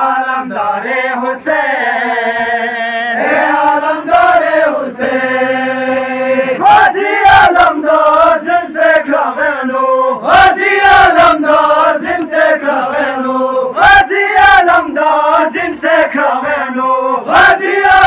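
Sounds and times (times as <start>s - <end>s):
lead reciter singing on microphone: 0.0s - 18.0s
men chanting in unison: 0.0s - 18.0s.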